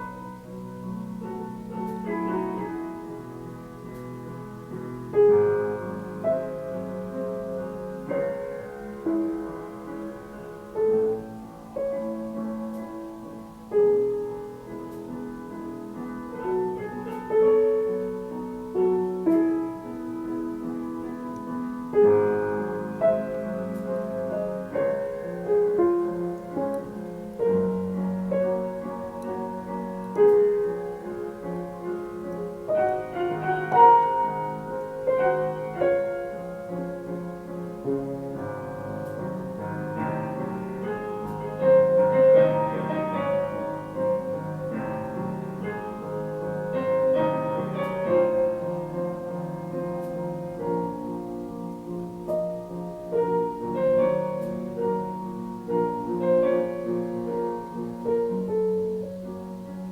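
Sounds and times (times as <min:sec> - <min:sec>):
slow piano melody: 0:00.0 - 0:59.9.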